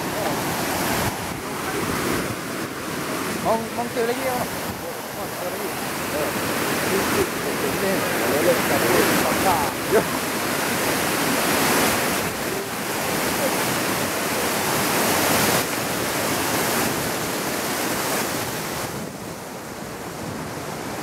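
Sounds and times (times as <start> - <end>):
river rapids rushing over rocks: 0.0 - 21.0.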